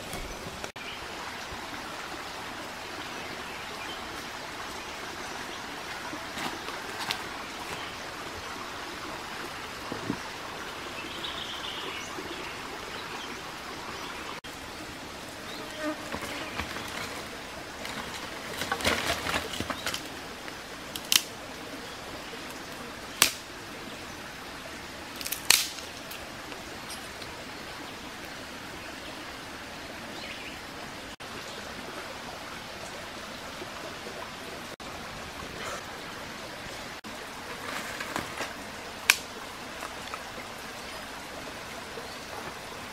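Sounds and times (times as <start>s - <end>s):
creek rushing over rocks: 0.0s - 42.9s.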